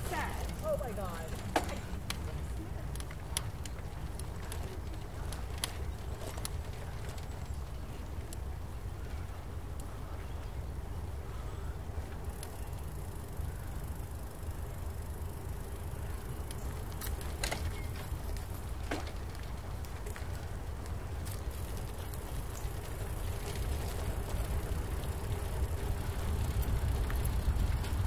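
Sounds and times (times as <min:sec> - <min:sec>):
wind and tyres rumbling: 0:00.0 - 0:28.0.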